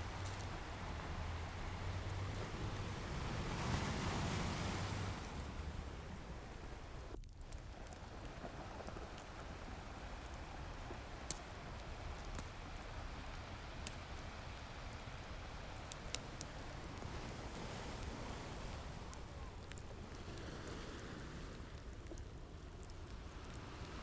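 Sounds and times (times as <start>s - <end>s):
ocean surf washing: 0.0s - 24.0s
wood fire crackling and popping: 0.0s - 24.0s.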